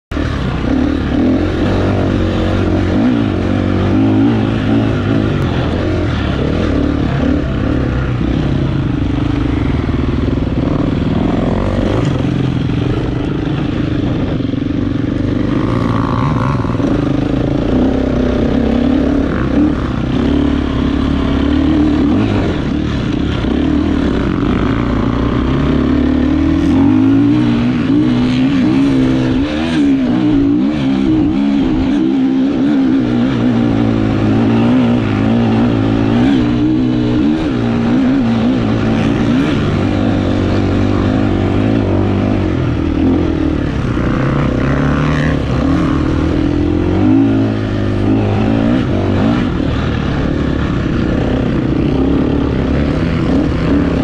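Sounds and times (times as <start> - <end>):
dirt bike engine revving: 0.1 - 54.0.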